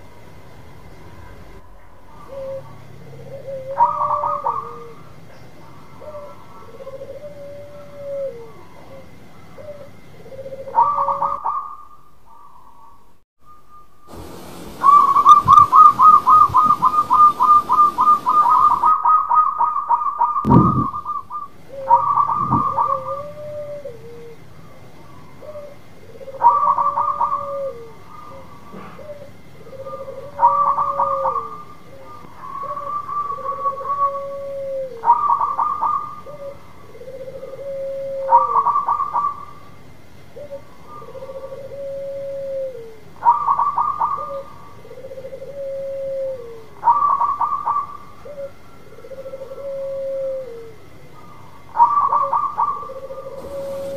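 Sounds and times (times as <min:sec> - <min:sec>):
dove cooing: 0:01.6 - 0:13.0, 0:14.1 - 0:53.9.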